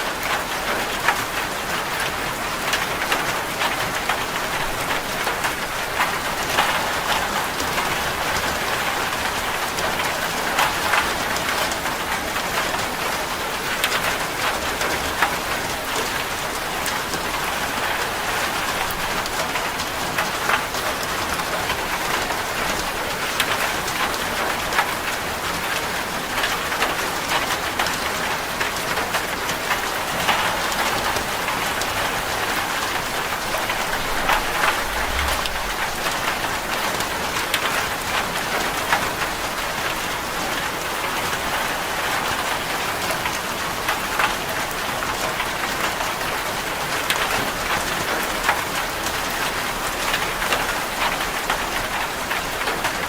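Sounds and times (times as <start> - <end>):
heavy rain on a metal roof: 0.0 - 53.0.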